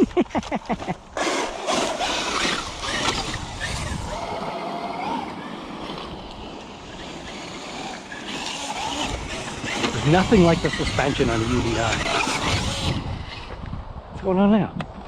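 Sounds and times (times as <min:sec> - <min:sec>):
tyres rushing over dirt: 0:00.4 - 0:13.6
electric motor whining: 0:01.2 - 0:13.8.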